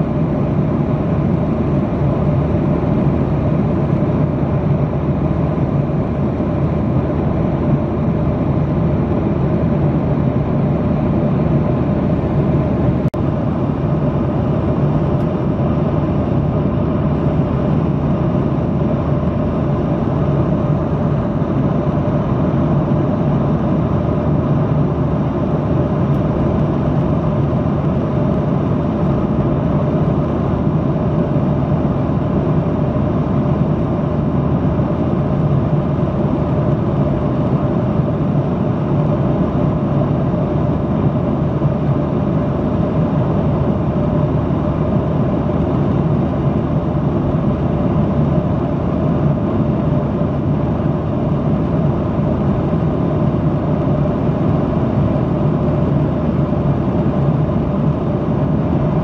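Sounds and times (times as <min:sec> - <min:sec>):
constant hum tones: 0:00.0 - 0:59.0
jet engines droning: 0:00.0 - 0:59.0.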